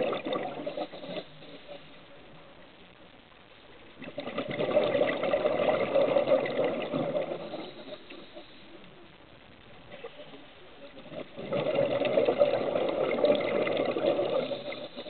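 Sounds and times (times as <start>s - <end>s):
faint steady hiss: 0.0s - 15.0s
underwater bubbling and gushing: 0.0s - 15.0s.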